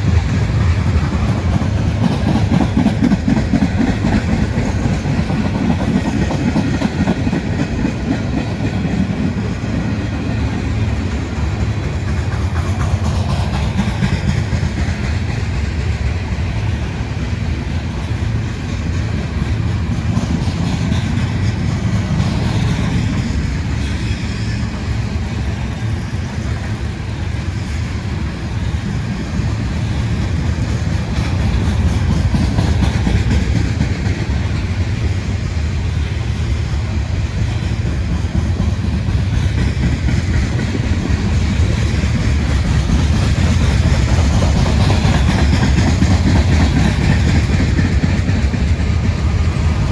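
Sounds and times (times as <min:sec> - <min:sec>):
freight train wheels rumbling on rail: 0:00.0 - 0:49.9.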